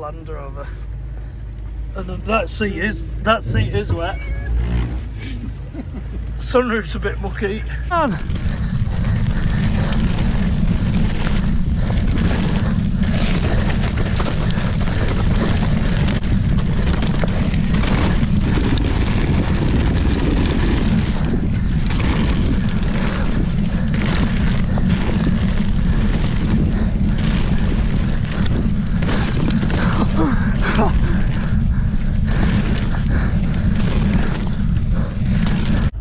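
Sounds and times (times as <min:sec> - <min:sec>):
bike rattling over bumps: 0:00.0 - 0:36.0
wind rumble on microphone: 0:00.0 - 0:36.0
tyres rolling on dirt and leaves: 0:05.7 - 0:36.0.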